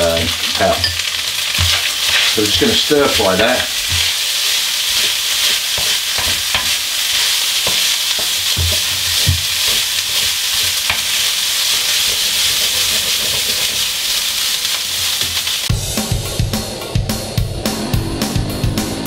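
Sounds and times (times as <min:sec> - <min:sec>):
rice sizzling in oil: 0:00.0 - 0:15.7.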